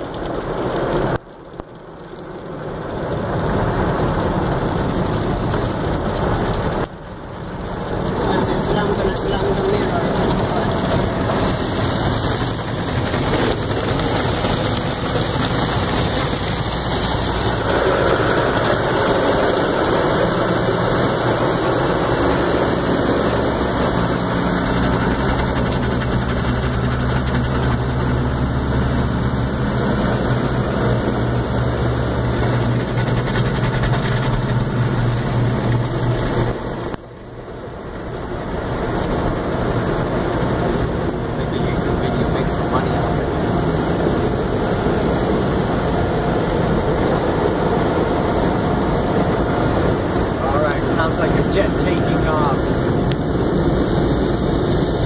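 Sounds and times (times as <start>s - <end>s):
car wash machinery: 0.0s - 55.0s
water spray hitting car: 0.0s - 55.0s.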